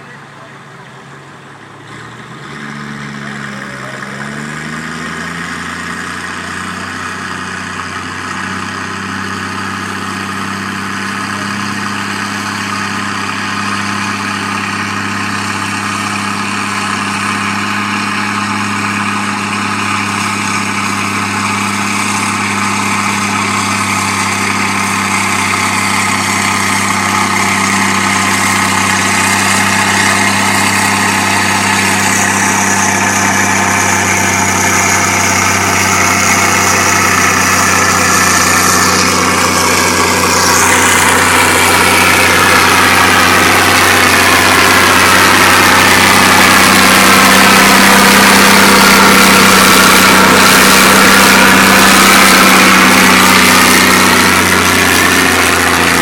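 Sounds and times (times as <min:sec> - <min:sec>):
tractor engine working hard: 0:00.0 - 0:56.0.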